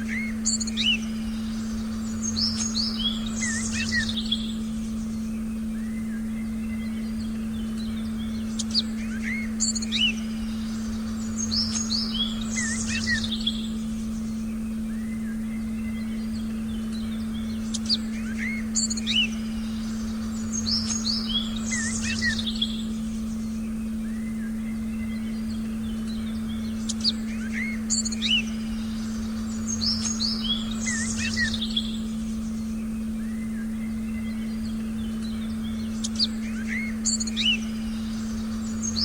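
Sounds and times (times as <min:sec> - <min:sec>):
birds chirping and whistling: 0:00.0 - 0:39.0
steady low tone: 0:00.0 - 0:39.0.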